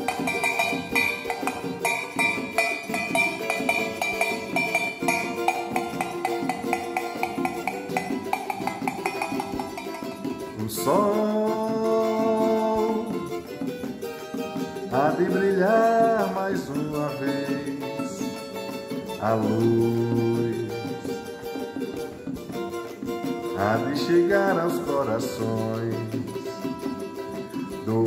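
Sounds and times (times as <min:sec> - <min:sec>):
acoustic guitars: 0:00.0 - 0:28.0
hand drum: 0:00.0 - 0:28.0
metal shaker: 0:00.0 - 0:28.0.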